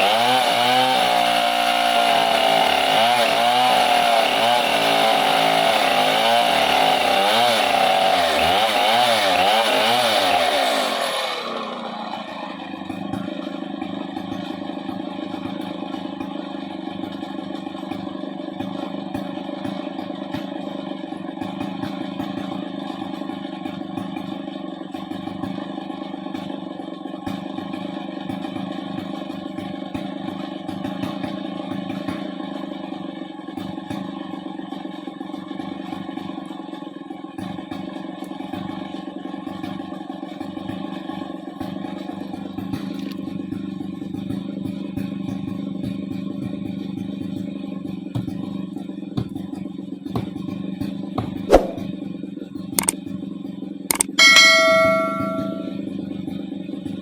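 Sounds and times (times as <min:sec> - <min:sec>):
chainsaw revving and idling: 0:00.0 - 0:53.2.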